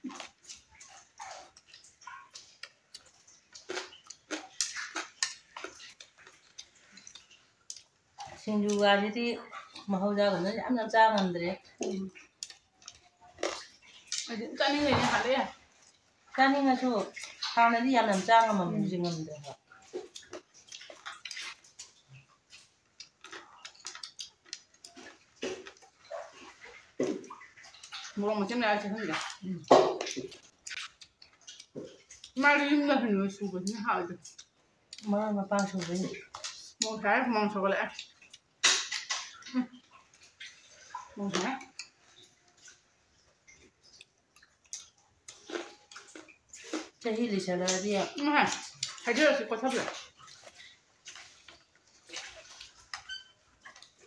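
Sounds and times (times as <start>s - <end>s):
chewing and mouth noises: 0.0s - 54.0s.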